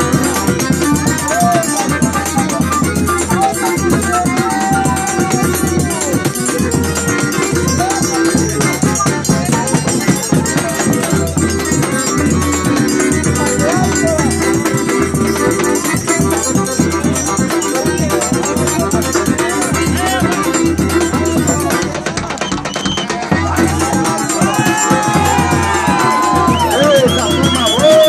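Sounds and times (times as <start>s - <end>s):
drum struck with stick and hand: 0.0s - 28.0s
flute melody: 0.0s - 28.0s
pandeiro jingles: 0.0s - 28.0s
strummed cavaquinho: 0.0s - 28.0s.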